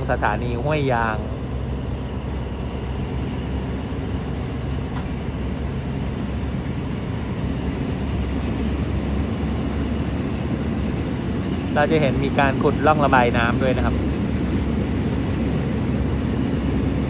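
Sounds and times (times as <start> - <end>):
passenger train rumbling: 0.0 - 17.0.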